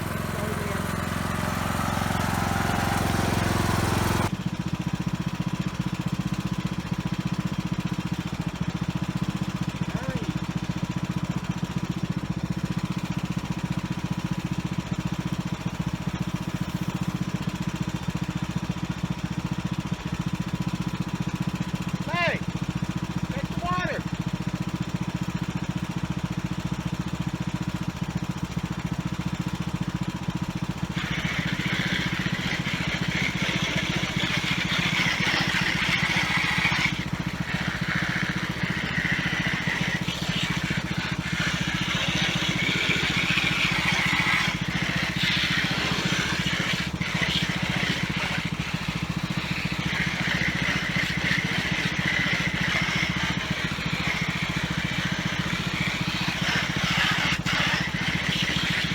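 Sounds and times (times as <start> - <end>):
lawnmower engine idling: 0.0 - 58.9.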